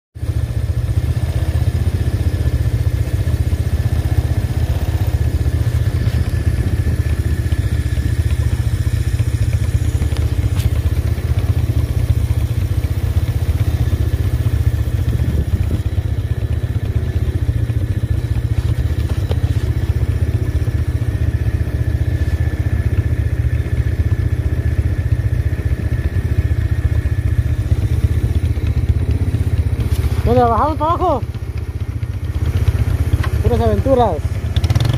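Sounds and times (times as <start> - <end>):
quad engine idling: 0.2 - 34.9.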